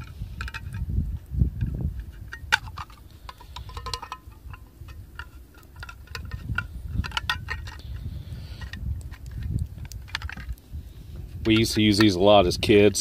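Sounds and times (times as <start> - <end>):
handling noise: 0.0 - 12.3.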